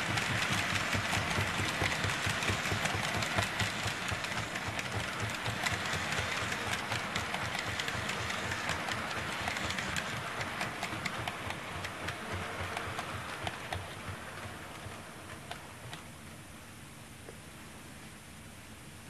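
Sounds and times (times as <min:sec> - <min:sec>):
model train rattling on track: 0:00.0 - 0:16.4.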